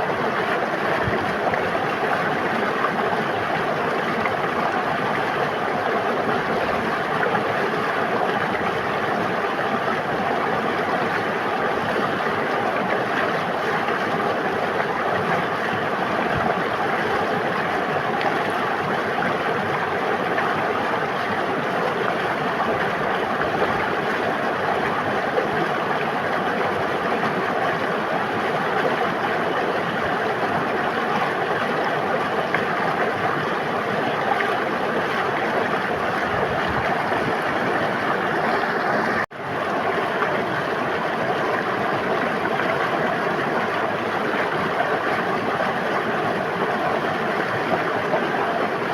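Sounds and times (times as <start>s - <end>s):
river flowing: 0.0s - 48.9s.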